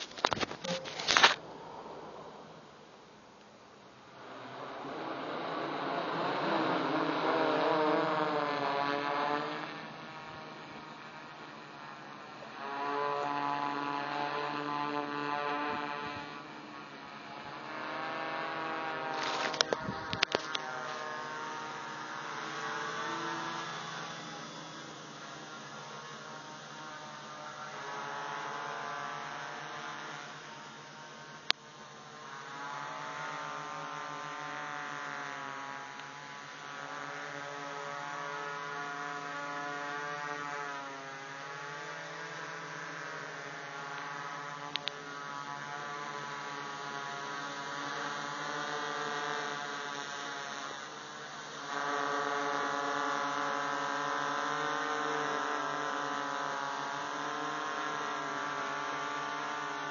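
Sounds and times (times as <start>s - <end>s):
quadcopter motors humming: 0.0s - 59.9s.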